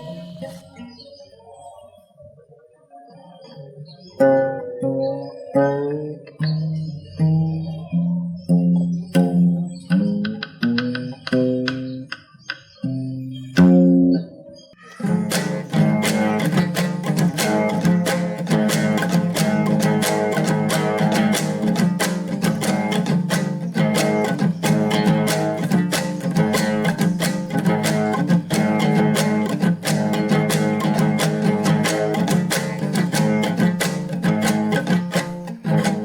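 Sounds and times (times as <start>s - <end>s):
folk lute plucked and strummed: 0.0s - 1.0s, 4.0s - 36.0s.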